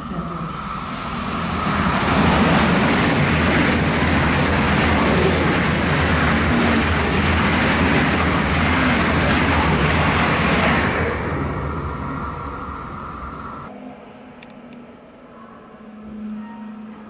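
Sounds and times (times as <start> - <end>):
high-speed train passing: 0.0 - 13.8.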